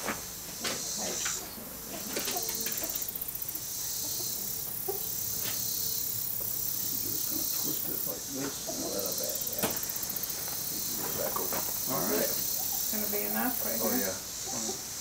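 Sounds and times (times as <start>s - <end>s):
cage and straw rustling: 0.0s - 14.4s
insects droning: 0.0s - 15.0s.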